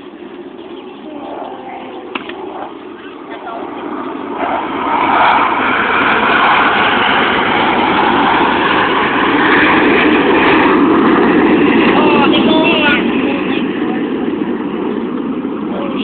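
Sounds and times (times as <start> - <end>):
low-flying aircraft roar: 0.0 - 16.0.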